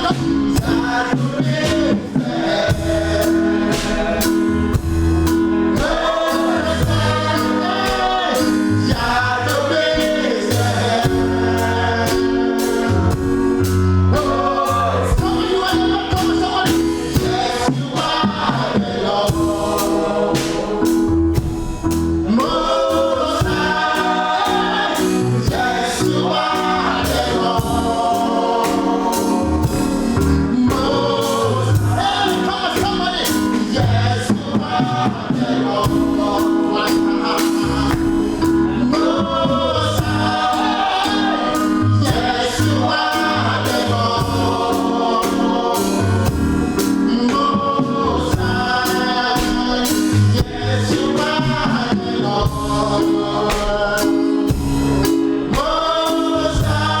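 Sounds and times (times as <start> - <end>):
bass line: 0.0 - 57.0
drum beat: 0.0 - 57.0
gospel choir singing: 0.0 - 57.0.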